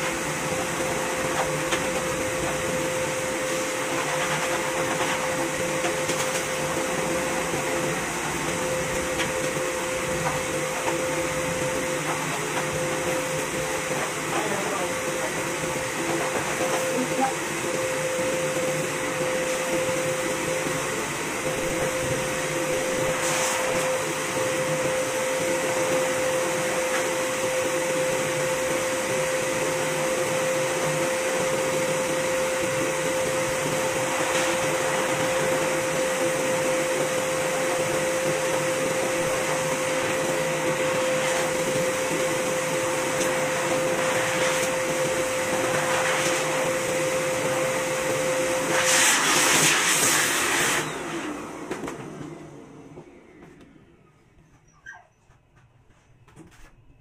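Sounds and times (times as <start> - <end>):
pet grooming dryer blowing: 0.0 - 54.8.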